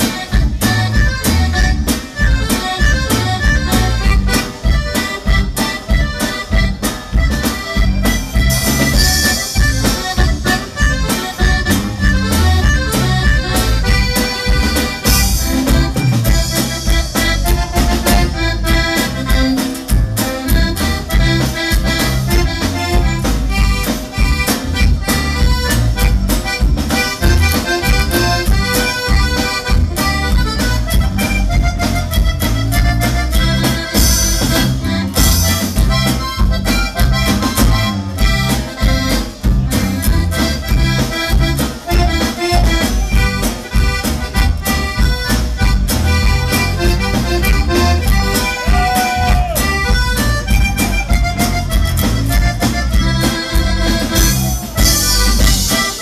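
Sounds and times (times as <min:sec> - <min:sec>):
accordion melody: 0:00.0 - 0:56.0
drums: 0:00.0 - 0:56.0
electric bass: 0:00.0 - 0:56.0.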